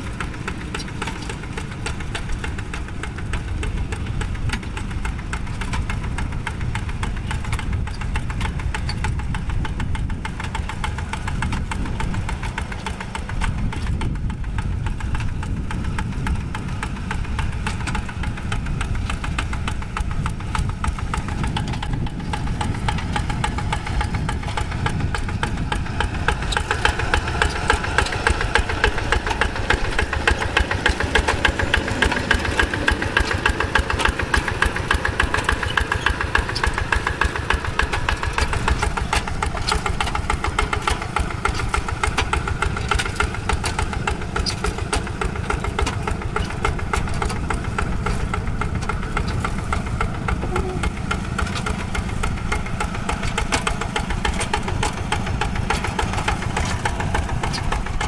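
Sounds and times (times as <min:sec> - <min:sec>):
diesel hand tractor chugging: 0:00.0 - 0:58.0.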